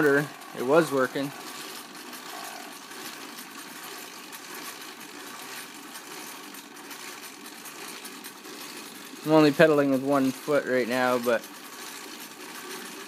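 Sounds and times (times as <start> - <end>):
exercise bike wheel whirring: 0.0 - 13.0.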